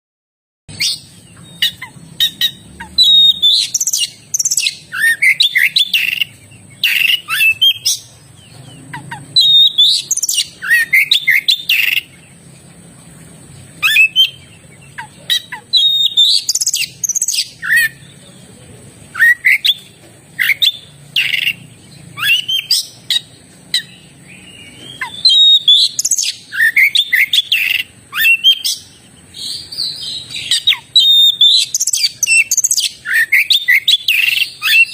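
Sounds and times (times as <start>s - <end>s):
magpie-robin singing: 0.7s - 34.9s.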